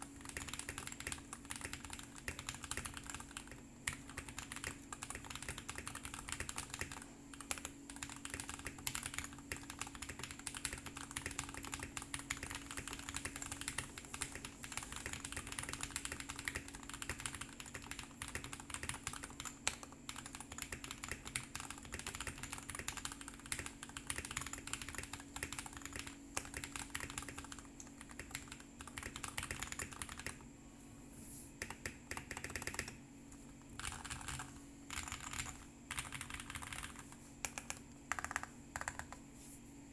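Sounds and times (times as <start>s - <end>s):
low steady hum: 0.0s - 39.9s
fast typing on mechanical keyboard: 0.1s - 30.4s, 31.6s - 33.0s, 33.8s - 39.2s.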